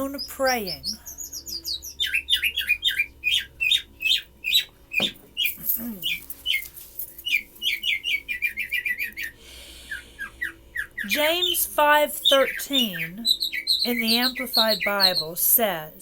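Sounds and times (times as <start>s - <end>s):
bird singing chirps and trill: 0.0s - 16.0s.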